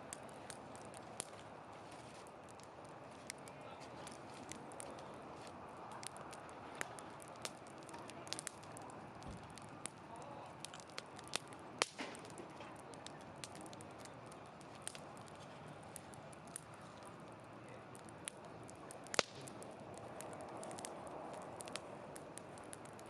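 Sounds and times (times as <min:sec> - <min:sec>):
campfire flames rushing: 0:00.0 - 0:23.0
fire crackling and popping: 0:00.0 - 0:23.0.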